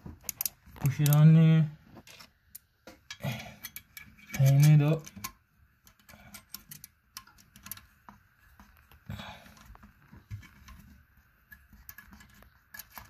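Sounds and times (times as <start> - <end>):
nut tightening clicks and scrapes: 0.2 - 1.3, 2.0 - 13.0.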